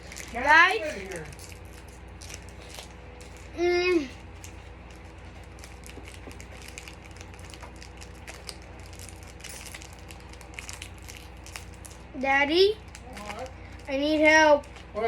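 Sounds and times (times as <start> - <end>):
foil pack crackling: 0.0 - 15.0.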